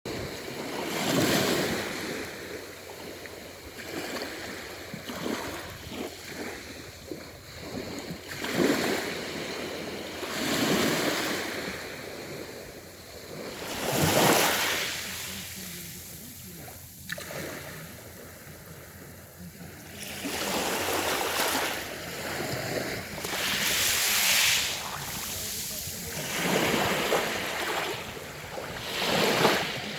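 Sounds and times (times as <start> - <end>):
sea waves breaking: 0.1 - 29.9.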